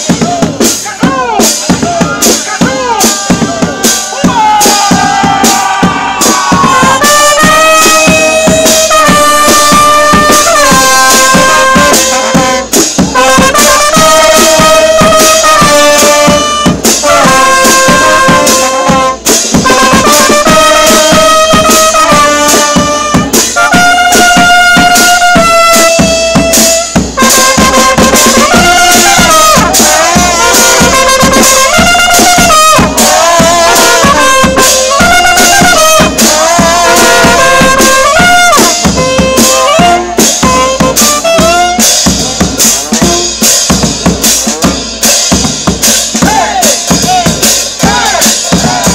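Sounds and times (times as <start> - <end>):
brass street band playing: 0.0 - 48.9.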